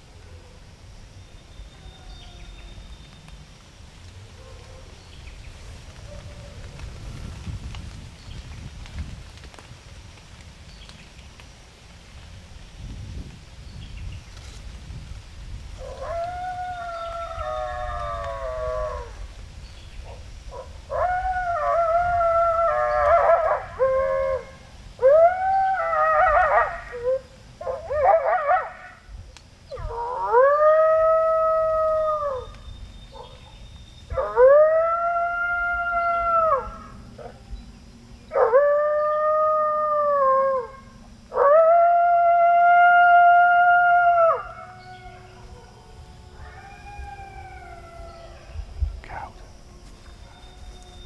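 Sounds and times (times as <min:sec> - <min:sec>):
coyotes howling and yipping: 0:00.0 - 0:03.2, 0:04.1 - 0:07.2, 0:15.7 - 0:51.0.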